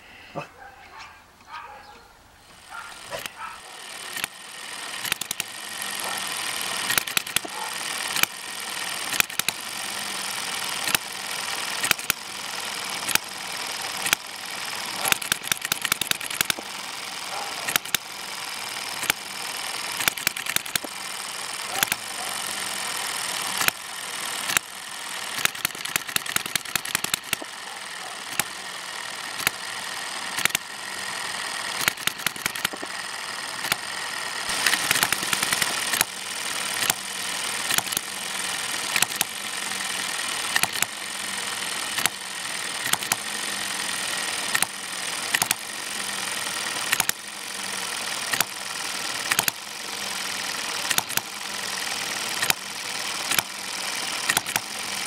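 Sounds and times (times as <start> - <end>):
hit-and-miss engine firing: 2.6 - 55.0.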